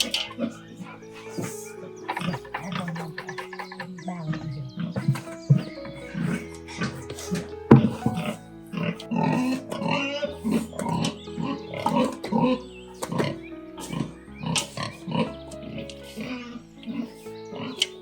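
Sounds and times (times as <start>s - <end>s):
animal grunting: 0.0s - 18.0s
background music with held tones: 0.0s - 18.0s.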